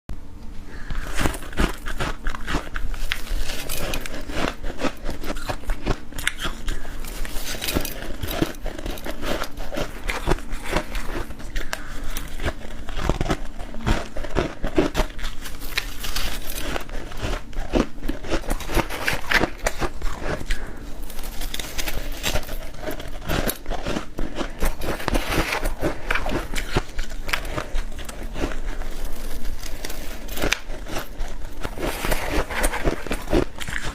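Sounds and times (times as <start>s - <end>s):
chewing crunchy frost: 0.7s - 33.9s.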